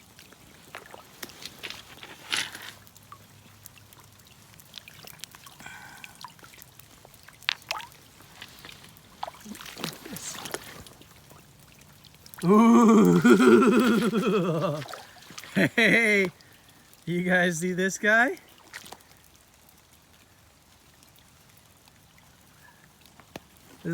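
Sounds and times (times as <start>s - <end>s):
creek water trickling: 0.0s - 23.9s
rain: 0.0s - 23.9s.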